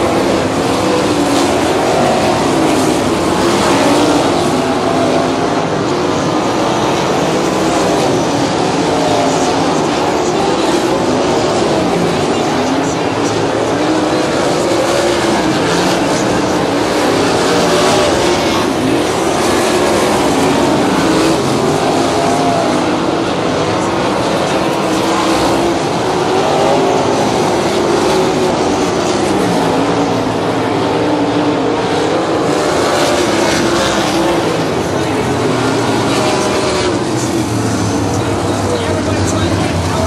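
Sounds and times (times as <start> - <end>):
race car engines running hard: 0.0 - 40.0.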